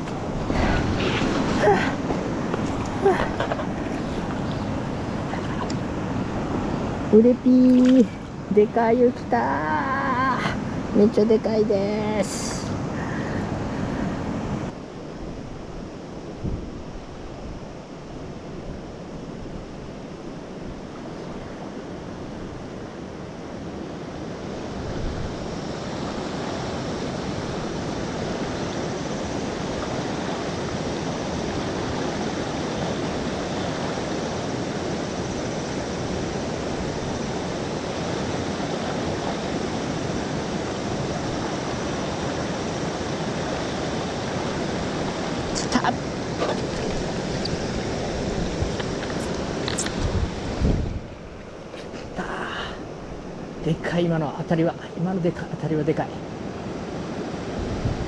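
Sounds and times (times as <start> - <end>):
river rushing over rocks: 0.0 - 11.2, 12.2 - 58.0.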